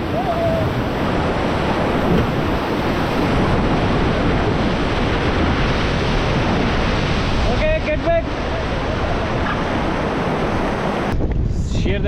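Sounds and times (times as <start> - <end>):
river water rushing: 0.0 - 11.1
wind noise on microphone: 0.0 - 12.0.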